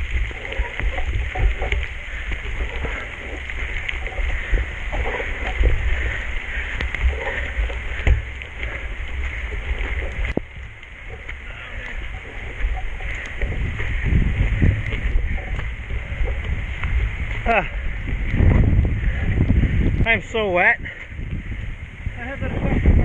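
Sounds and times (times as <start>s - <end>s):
bicycle clicks and rattles: 0.0s - 20.0s
wind rumbling on microphone: 0.0s - 23.0s.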